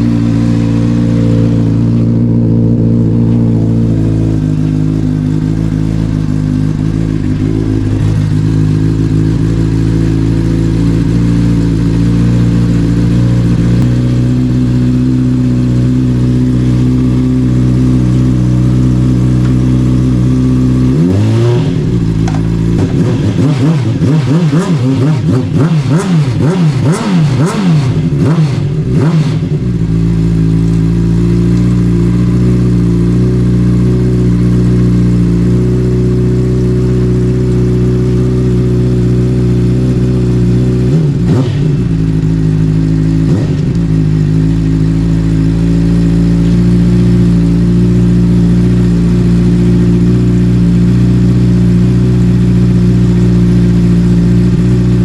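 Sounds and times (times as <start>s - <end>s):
motorcycle engine revving and idling: 0.0s - 55.0s.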